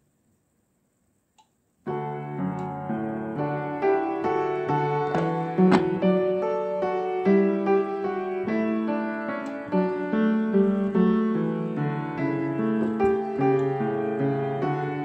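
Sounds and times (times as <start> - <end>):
gentle piano melody: 1.9 - 15.0.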